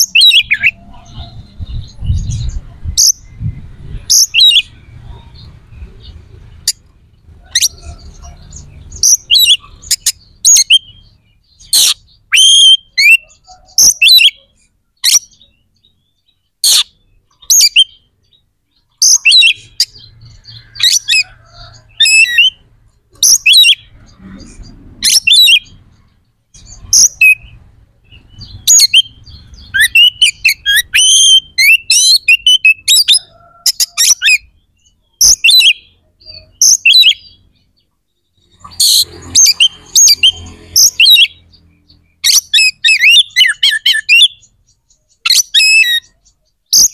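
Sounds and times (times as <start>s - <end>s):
bird singing whistles and chirps: 0.0s - 37.8s, 38.4s - 46.9s.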